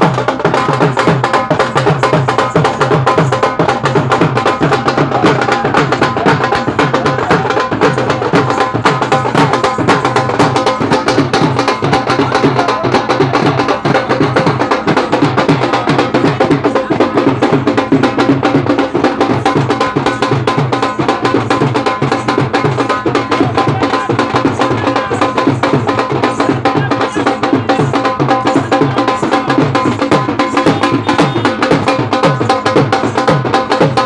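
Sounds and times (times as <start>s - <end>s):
loud music with fast drumming: 0.0s - 34.0s.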